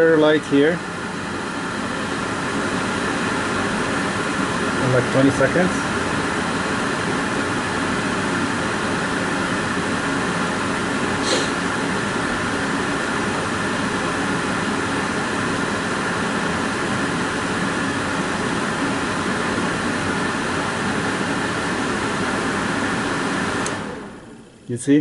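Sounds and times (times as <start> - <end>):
furnace blower running: 0.0 - 25.0.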